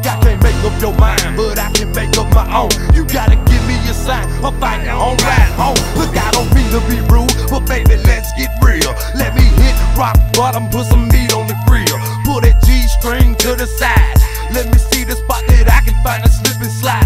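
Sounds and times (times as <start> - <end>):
hip hop track: 0.0 - 17.0.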